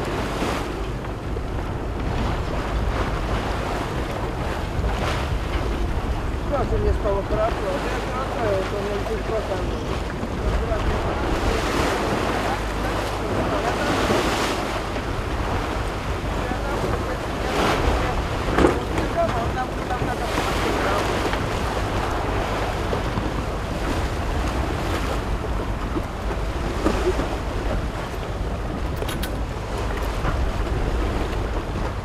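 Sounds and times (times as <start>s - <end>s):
choppy sea water splashing: 0.0s - 32.0s
wind buffeting microphone: 0.0s - 32.0s.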